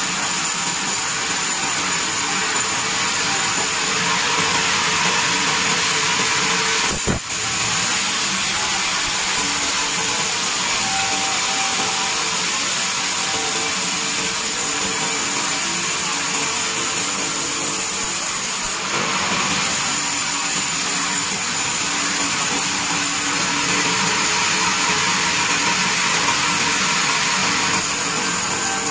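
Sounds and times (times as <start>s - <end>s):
band saw cutting wood: 0.0s - 28.9s.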